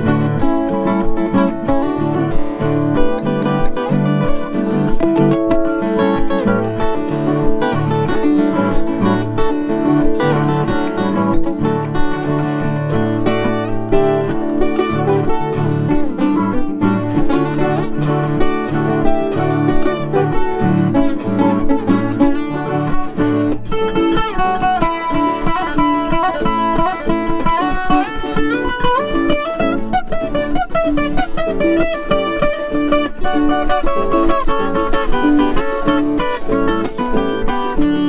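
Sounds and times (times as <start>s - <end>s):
plucked string duet: 0.0s - 38.0s.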